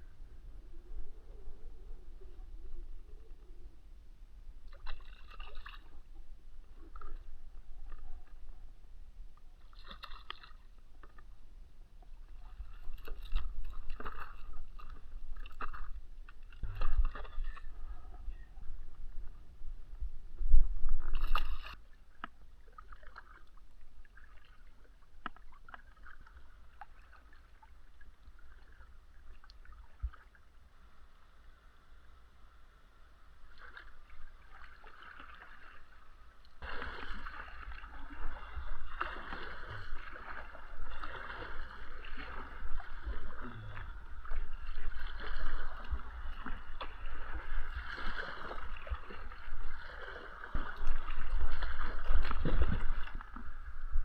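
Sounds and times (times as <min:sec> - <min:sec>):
water sloshing around kayak: 0:00.0 - 0:30.7, 0:33.3 - 0:54.0.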